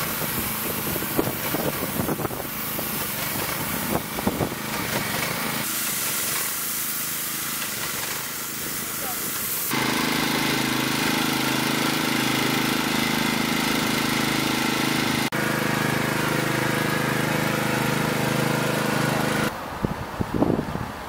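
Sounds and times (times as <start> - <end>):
small engine running: 0.0 - 19.5.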